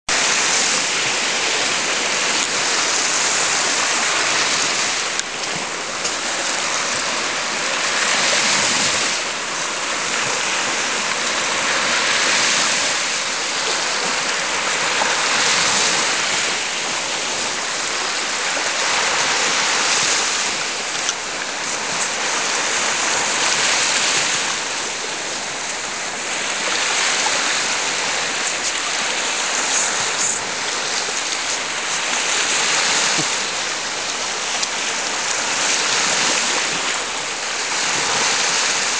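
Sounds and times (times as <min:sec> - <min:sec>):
sea surf washing on beach: 0:00.1 - 0:38.9.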